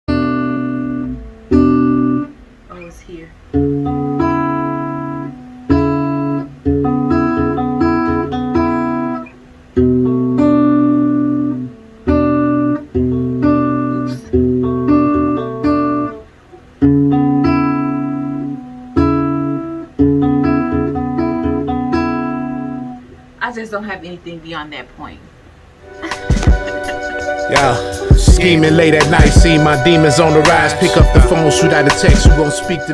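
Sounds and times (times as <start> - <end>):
electric guitar chords ringing: 0.1 - 2.7, 3.5 - 23.4, 25.8 - 32.9.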